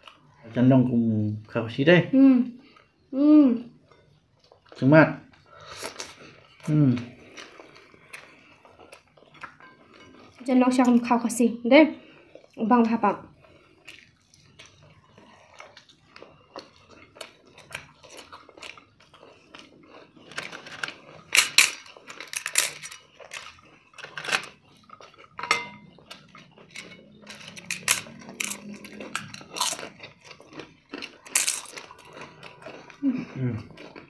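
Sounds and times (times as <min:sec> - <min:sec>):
chewing crisp fried food: 0:00.0 - 0:01.9, 0:02.6 - 0:34.0.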